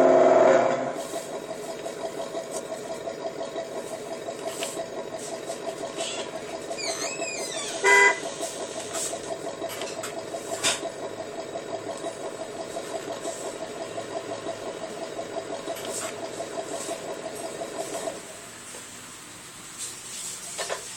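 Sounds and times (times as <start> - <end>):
vehicle engine idling: 0.0 - 20.9.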